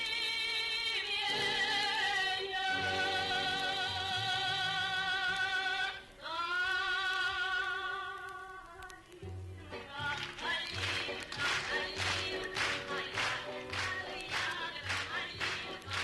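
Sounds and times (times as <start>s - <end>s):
operatic high voice singing: 0.1s - 9.1s, 9.7s - 16.0s.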